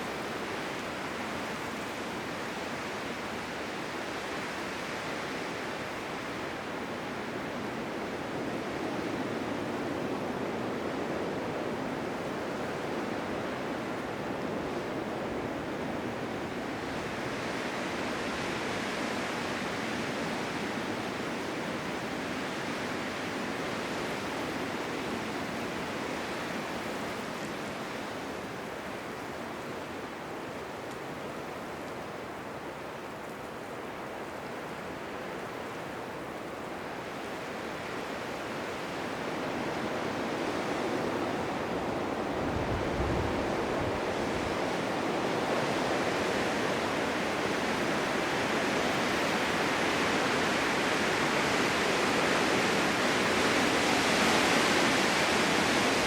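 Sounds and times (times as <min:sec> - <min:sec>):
blizzard wind rushing hiss: 0:00.0 - 0:56.0
low rumble of wind gust: 0:05.9 - 0:56.0.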